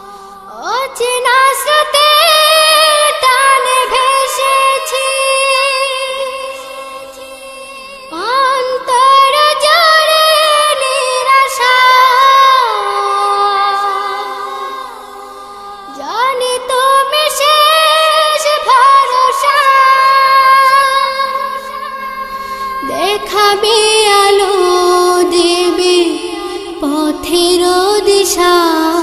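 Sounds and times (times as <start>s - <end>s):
children singing a cappella: 0.0s - 29.0s.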